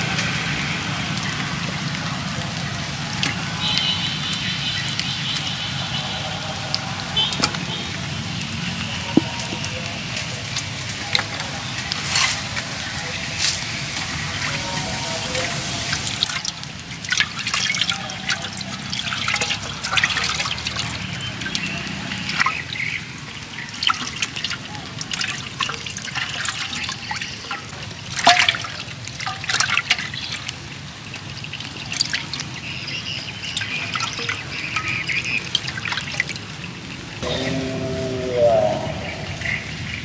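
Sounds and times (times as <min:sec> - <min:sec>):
water splashing in a clay pot: 0:00.0 - 0:37.2.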